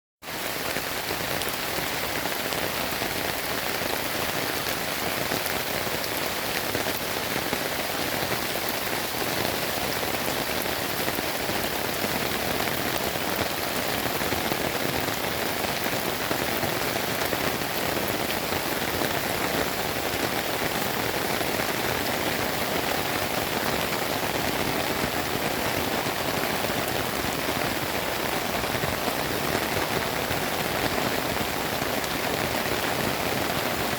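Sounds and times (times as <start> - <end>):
heavy rain pattering: 0.2 - 33.9.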